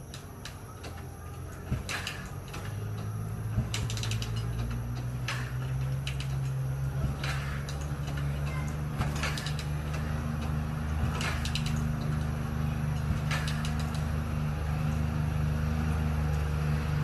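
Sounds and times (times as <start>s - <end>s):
low steady hum: 0.0s - 17.0s
motorcycle kick-start clatter: 0.4s - 14.2s.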